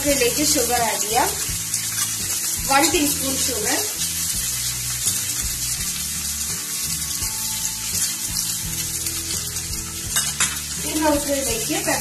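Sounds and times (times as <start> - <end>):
onion and garlic sizzling in oil: 0.0 - 12.0.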